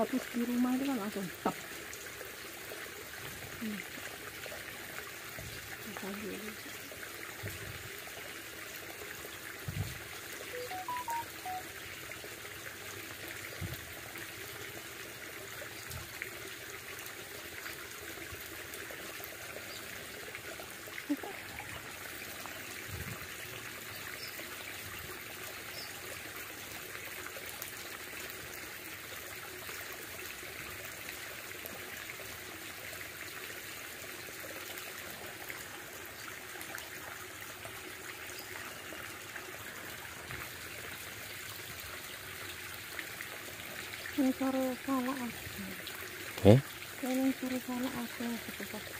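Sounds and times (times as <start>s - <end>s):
small stream trickling: 0.0s - 48.9s.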